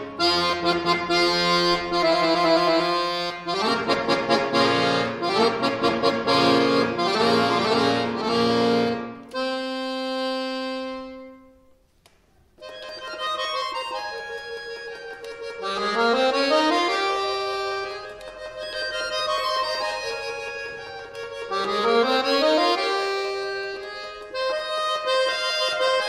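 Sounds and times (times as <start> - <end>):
button accordion playing: 0.0 - 11.7, 12.6 - 26.0.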